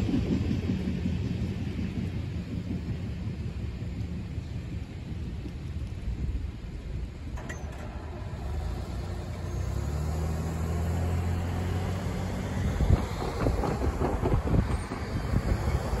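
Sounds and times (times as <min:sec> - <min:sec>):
wind on microphone: 0:00.0 - 0:16.0
car engine humming: 0:01.0 - 0:16.0.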